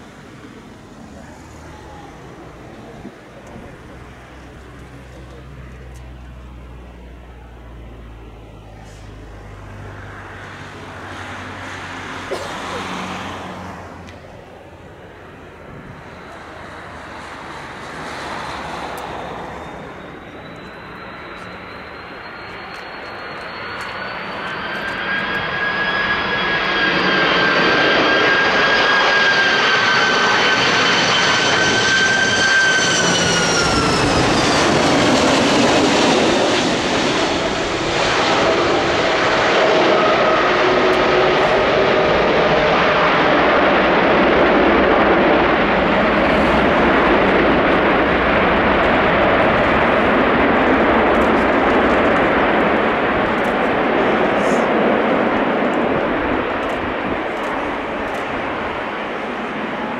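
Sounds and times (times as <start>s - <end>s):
jet engines whining: 0.0s - 59.9s
rushing roar of rolling airliner: 6.4s - 59.9s.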